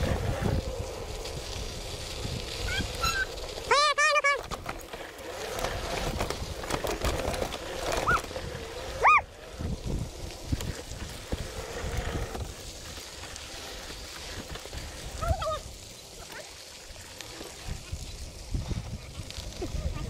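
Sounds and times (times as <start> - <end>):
bike tyres crunching on gravel: 0.0 - 20.0.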